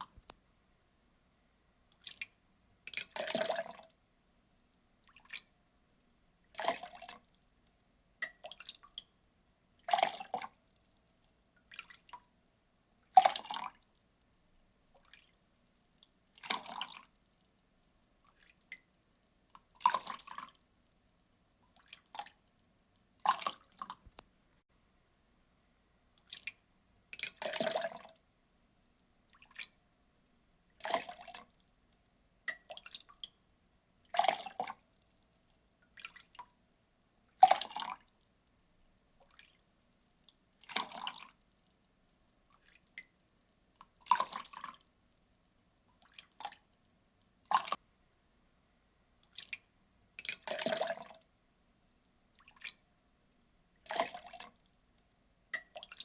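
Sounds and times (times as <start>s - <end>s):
faint water drips: 1.2s - 24.6s, 25.5s - 47.8s, 48.6s - 56.0s.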